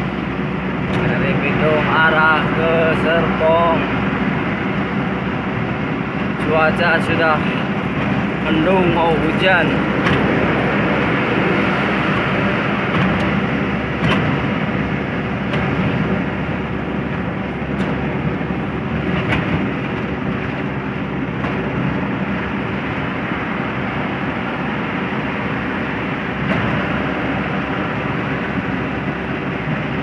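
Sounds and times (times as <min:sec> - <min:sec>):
road noise: 0:00.0 - 0:30.0
truck engine hum: 0:00.0 - 0:30.0.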